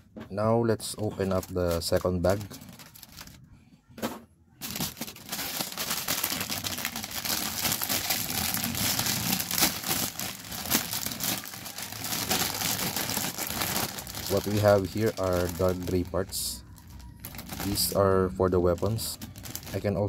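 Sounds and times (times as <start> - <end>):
plastic bag crinkling: 0.8 - 3.4, 4.6 - 20.0.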